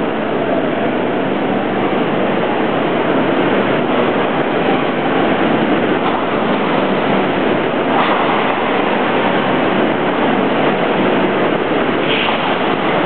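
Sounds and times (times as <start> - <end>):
train rolling into station: 0.0 - 13.0.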